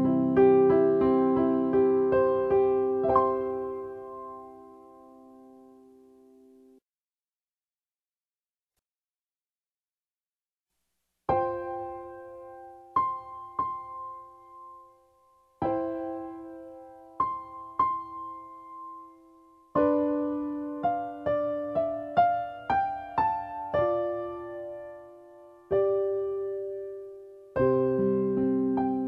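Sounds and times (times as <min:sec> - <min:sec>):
slow electric piano melody: 0:00.0 - 0:06.8, 0:11.3 - 0:29.0.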